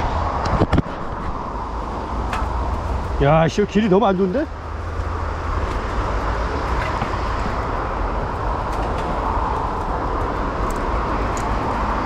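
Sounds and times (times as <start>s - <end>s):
wind buffeting microphone: 0.0s - 12.0s
bike tyres on dirt trail: 0.2s - 12.0s
small clicks and rattles: 2.0s - 12.0s.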